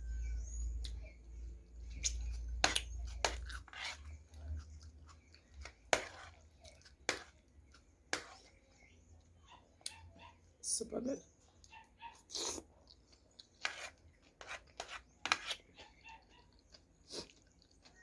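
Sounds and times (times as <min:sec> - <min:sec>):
person chewing food: 0:00.6 - 0:10.0, 0:11.5 - 0:18.0.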